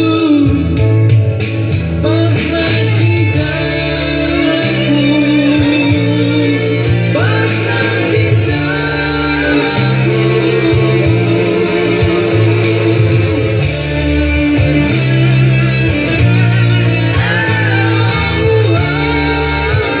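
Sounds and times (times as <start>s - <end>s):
bass line: 0.0s - 20.0s
guitar-led song: 0.0s - 20.0s.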